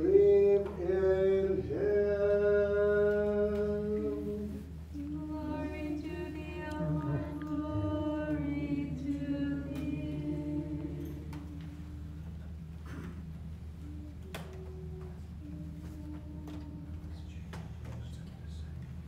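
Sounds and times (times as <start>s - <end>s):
unaccompanied liturgical chant: 0.0s - 13.1s, 13.8s - 18.2s.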